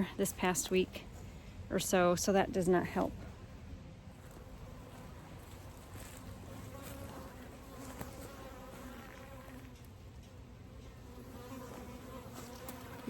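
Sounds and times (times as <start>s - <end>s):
honeybees buzzing: 1.8s - 13.0s.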